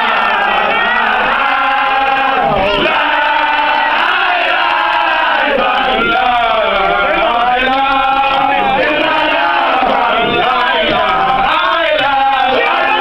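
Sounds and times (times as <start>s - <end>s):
male voices chanting in unison: 0.0s - 13.0s.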